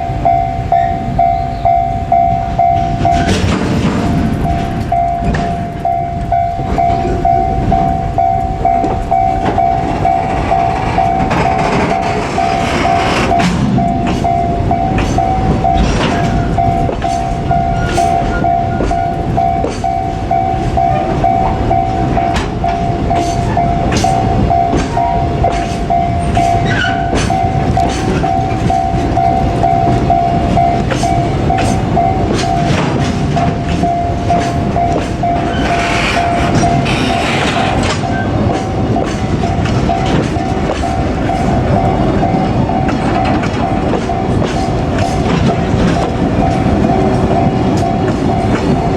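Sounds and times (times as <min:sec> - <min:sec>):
level-crossing warning bell: 0:00.0 - 0:48.9
train wheels clattering over rails: 0:00.0 - 0:48.9.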